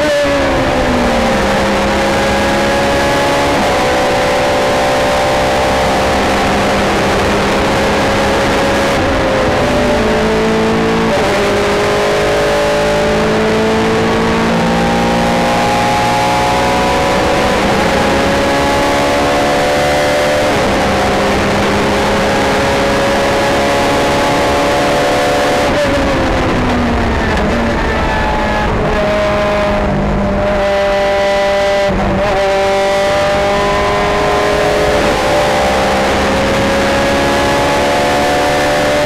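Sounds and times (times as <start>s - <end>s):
race car engine: 0.0s - 39.0s.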